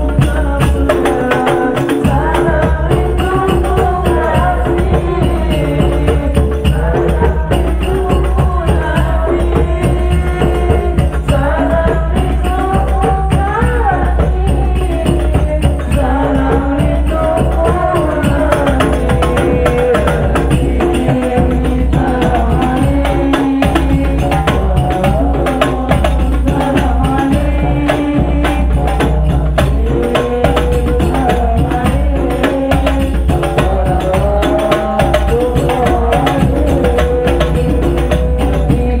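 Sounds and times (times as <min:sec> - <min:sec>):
frame drums with jingles: 0:00.0 - 0:39.0
men singing devotional songs: 0:00.0 - 0:39.0.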